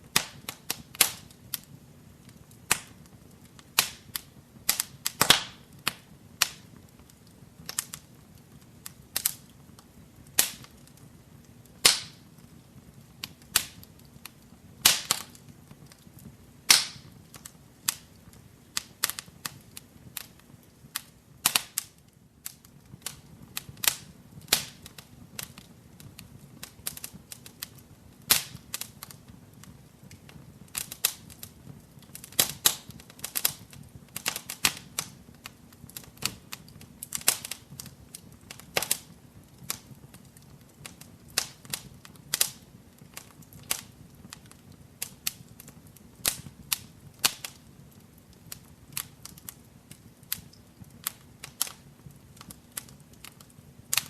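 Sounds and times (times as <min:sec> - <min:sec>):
low hiss of flames: 0:00.0 - 0:54.0
wood fire crackling: 0:00.0 - 0:54.0.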